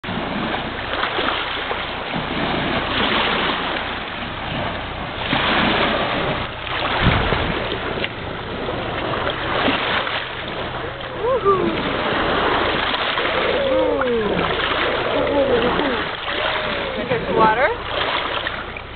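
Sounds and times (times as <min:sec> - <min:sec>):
small waves lapping on pebbles: 0:00.0 - 0:18.9
wind buffeting microphone: 0:01.8 - 0:17.8.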